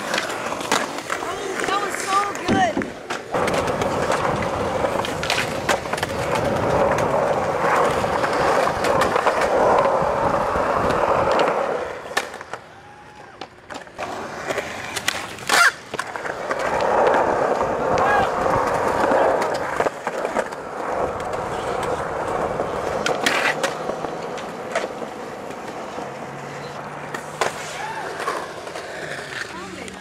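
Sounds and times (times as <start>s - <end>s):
skateboard clacking: 0.0s - 30.0s
skateboard wheels rolling on concrete: 0.0s - 30.0s.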